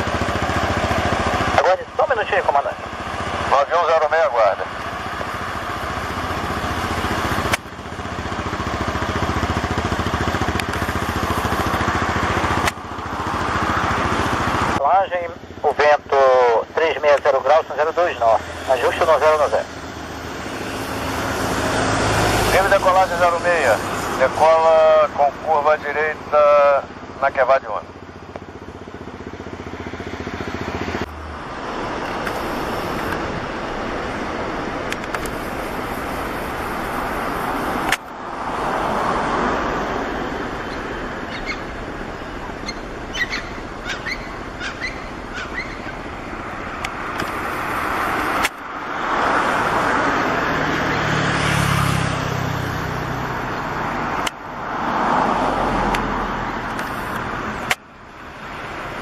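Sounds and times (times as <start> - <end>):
jet engines at takeoff thrust: 0.0 - 59.0.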